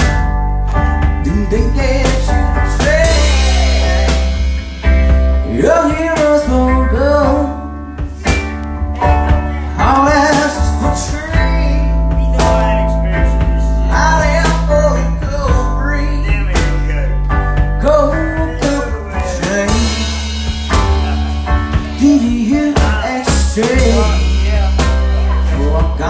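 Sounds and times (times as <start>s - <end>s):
drum strokes: 0.0s - 26.0s
electric guitar strumming: 0.0s - 26.0s
man singing: 1.1s - 26.0s.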